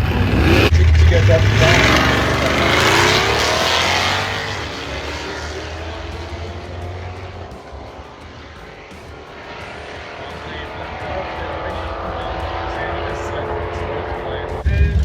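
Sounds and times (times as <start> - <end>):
drag race car accelerating: 0.0 - 15.0.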